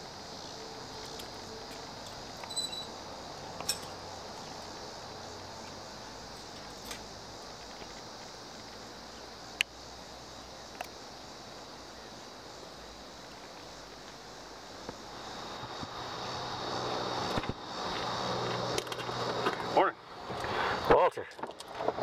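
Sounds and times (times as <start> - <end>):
rustle: 0.0 - 22.0
steady high hiss: 0.0 - 22.0.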